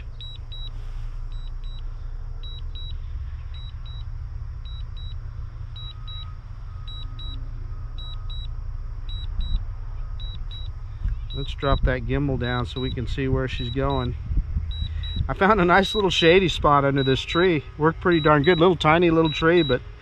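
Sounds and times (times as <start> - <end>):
remote controller double beeps: 0.0 - 1.8, 2.4 - 5.2, 5.8 - 7.4, 8.0 - 8.5, 9.1 - 9.6, 10.2 - 19.8
steady low rumble: 0.0 - 20.0.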